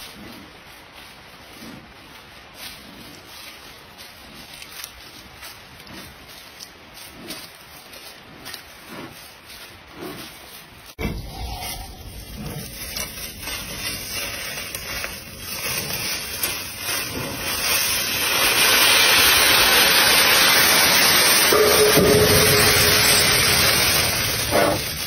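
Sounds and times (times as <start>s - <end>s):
dry leaves rustling and crunching: 0.0s - 11.0s, 11.8s - 25.0s.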